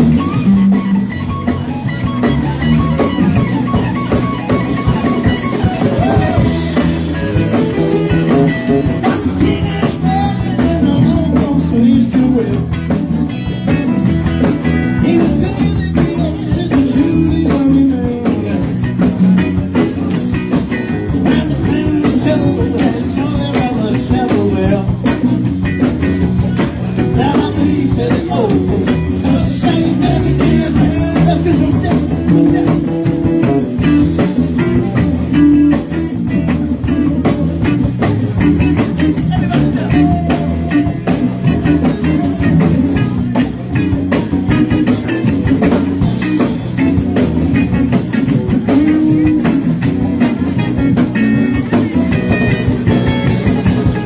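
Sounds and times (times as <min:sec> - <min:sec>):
live rock band playing blues: 0:00.0 - 0:54.0.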